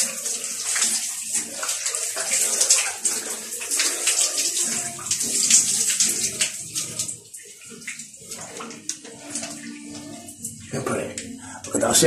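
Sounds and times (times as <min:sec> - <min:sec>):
faint water splashes: 0:00.0 - 0:11.9
shower spraying water: 0:00.0 - 0:11.9.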